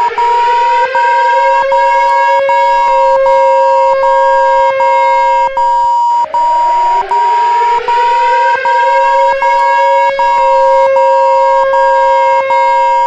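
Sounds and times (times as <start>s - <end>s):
pulsing high alarm tone: 0.0s - 13.0s
siren winding up: 0.0s - 13.0s.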